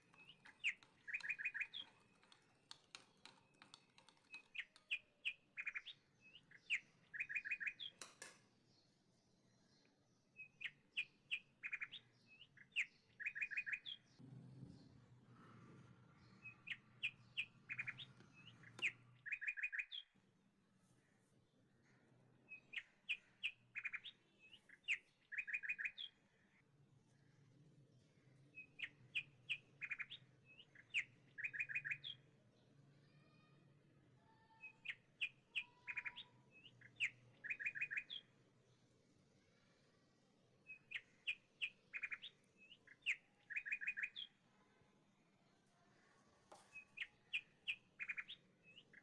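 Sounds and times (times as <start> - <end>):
birds chirping: 0.0 - 15.0, 16.1 - 20.2, 21.0 - 26.6, 28.1 - 32.4, 34.4 - 38.8, 40.6 - 44.5, 46.5 - 49.0.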